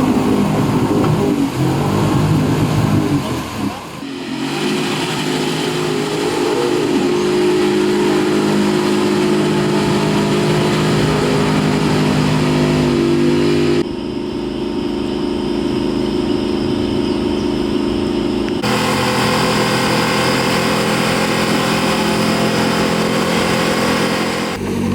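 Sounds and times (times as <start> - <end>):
engine revving high: 0.0 - 13.8, 18.6 - 24.9.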